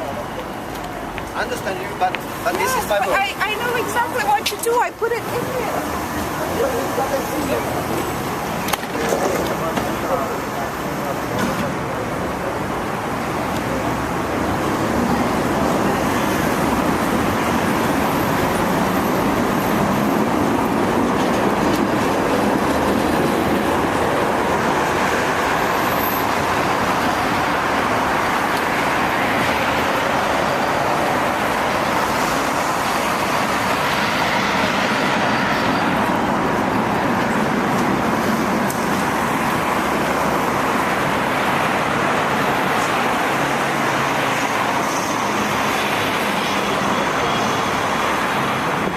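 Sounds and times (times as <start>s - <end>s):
city road traffic: 0.0s - 48.9s.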